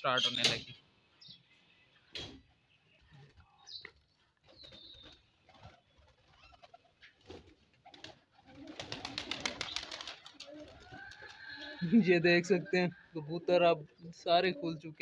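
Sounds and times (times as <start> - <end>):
faint pigeon cooing: 3.0 - 15.0.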